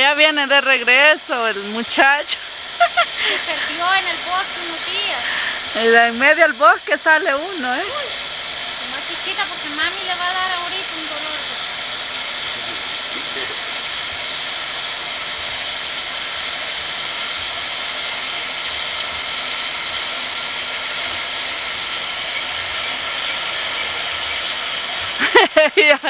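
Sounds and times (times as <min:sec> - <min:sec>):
ratcheting mechanical whirring: 0:00.0 - 0:26.0.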